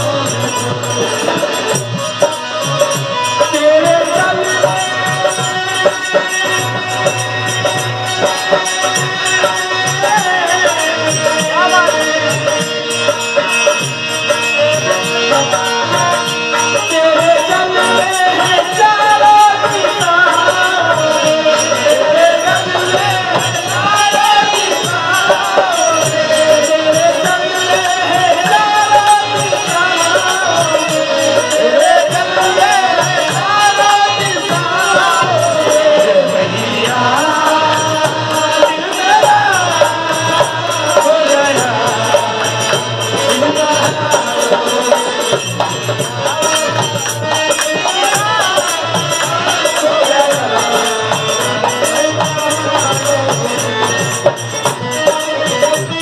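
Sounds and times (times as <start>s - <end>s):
rattling percussion: 0.0s - 56.0s
steady drum beat: 0.0s - 56.0s.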